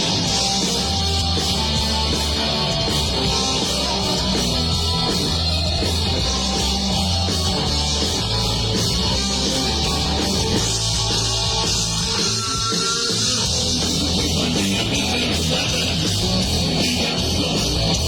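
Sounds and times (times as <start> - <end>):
drums with steady beat: 0.0 - 18.0
electric guitar: 0.0 - 18.0.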